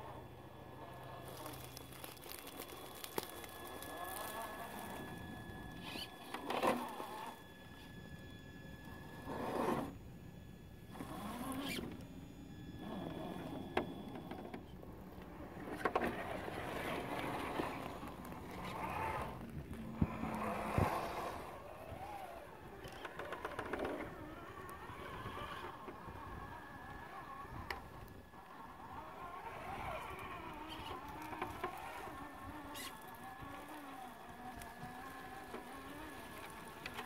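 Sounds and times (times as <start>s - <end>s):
toy car motor and gears whining: 0.0s - 37.0s.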